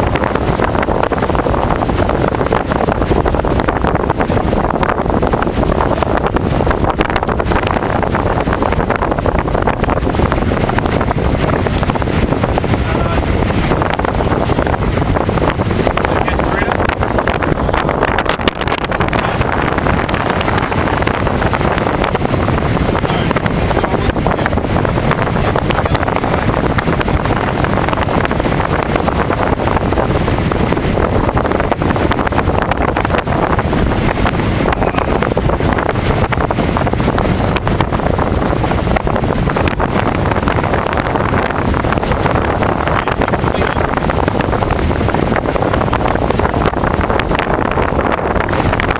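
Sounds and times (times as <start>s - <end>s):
strong wind on microphone: 0.0s - 48.9s.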